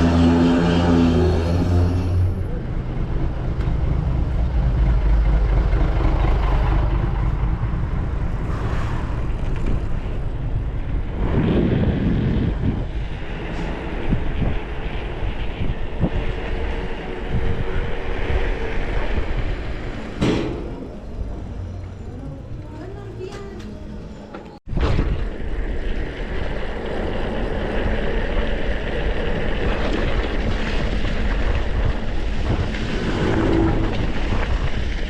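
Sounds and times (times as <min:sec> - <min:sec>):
wind buffeting microphone: 0:02.3 - 0:35.0.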